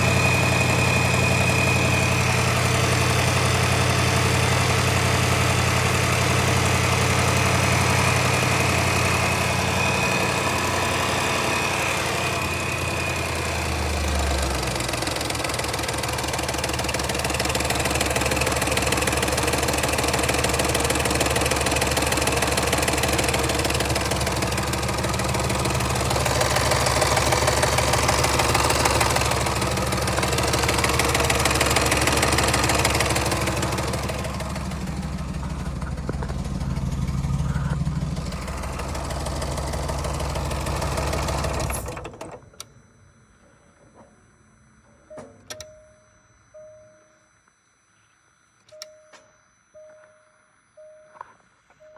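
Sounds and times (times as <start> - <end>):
car engine idling: 0.0 - 42.1.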